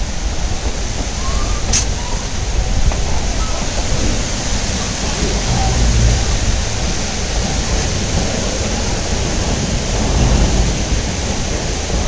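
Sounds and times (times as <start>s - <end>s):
train rushing and rumbling: 1.9s - 12.0s.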